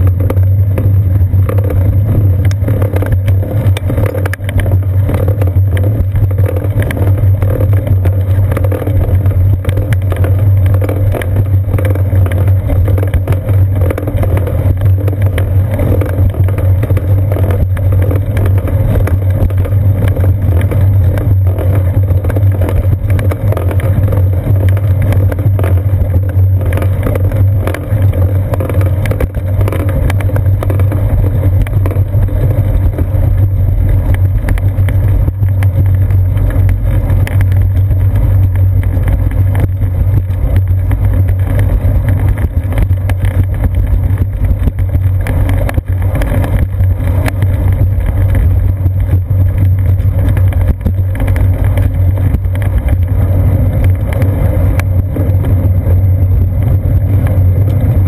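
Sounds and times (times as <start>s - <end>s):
bicycle rumbling on concrete: 0.0s - 58.0s
wind on camera: 0.0s - 58.0s.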